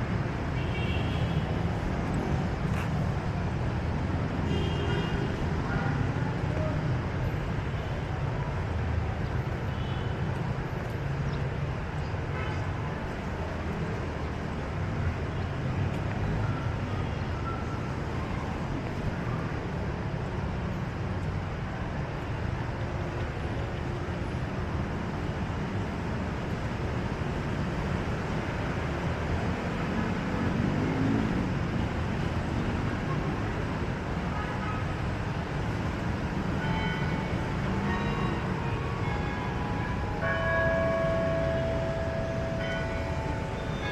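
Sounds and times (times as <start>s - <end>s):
street traffic rumble: 0.0s - 43.9s.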